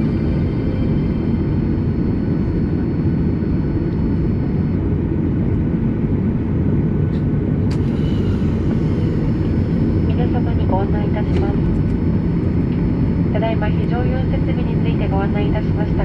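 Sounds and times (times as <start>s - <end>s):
jet engines idling: 0.0s - 16.0s.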